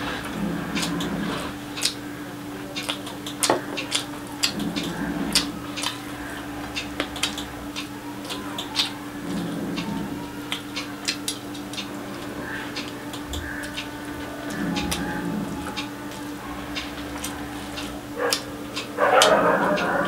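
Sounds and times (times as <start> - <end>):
faint steady hum: 0.0 - 20.0
fingers mixing rice on a plate: 0.0 - 20.0
wet chewing and mouth clicks: 0.2 - 2.1, 2.8 - 19.9.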